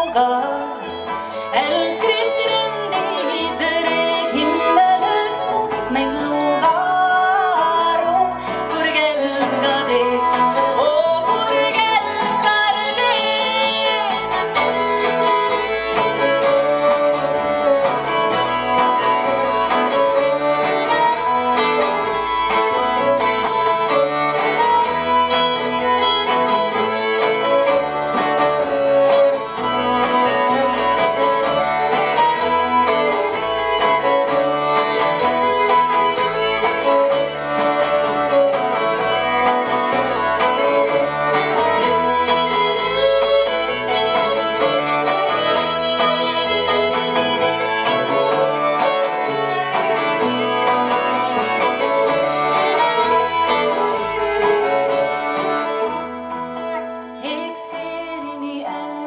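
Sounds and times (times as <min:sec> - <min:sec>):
upright double bass: 0:00.0 - 0:57.2
strummed acoustic guitar: 0:00.0 - 0:57.4
fiddles playing folk tune: 0:00.0 - 0:59.0.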